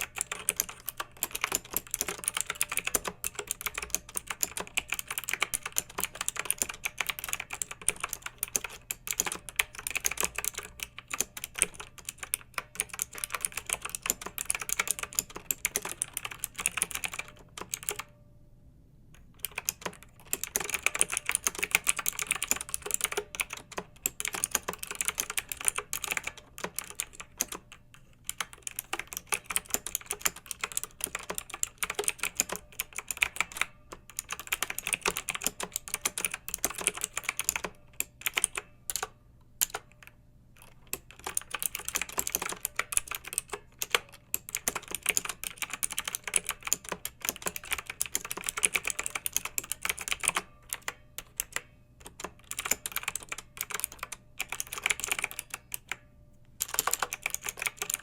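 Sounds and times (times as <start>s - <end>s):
mechanical keyboard typing: 0.0s - 18.2s, 19.2s - 58.0s.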